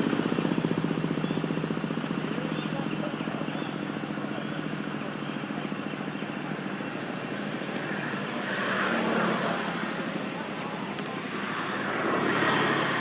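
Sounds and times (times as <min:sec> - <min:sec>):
pulsing engine drone: 0:00.0 - 0:13.0.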